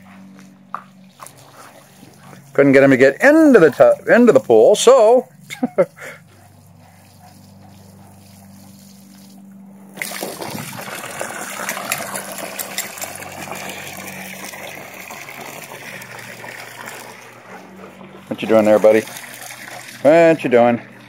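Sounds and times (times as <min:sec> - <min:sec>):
hose water splashing into pool: 0:00.0 - 0:21.0.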